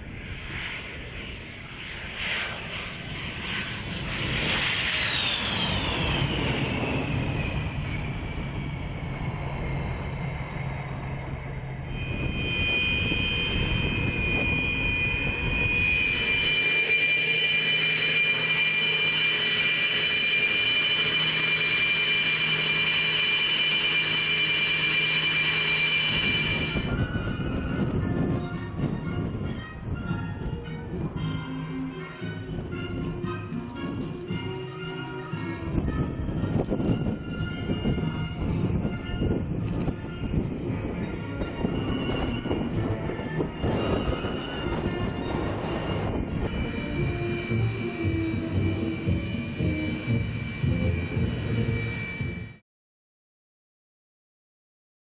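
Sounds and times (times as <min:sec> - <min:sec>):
jet engines whining: 0:00.0 - 0:28.4, 0:32.2 - 0:52.6
low hum: 0:00.0 - 0:52.6.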